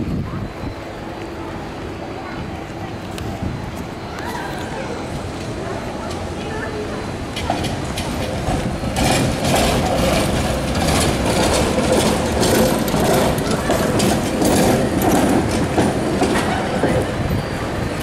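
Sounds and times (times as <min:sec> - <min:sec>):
tram passing: 0:00.0 - 0:18.0
wheels clicking over rail crossings: 0:00.0 - 0:18.0.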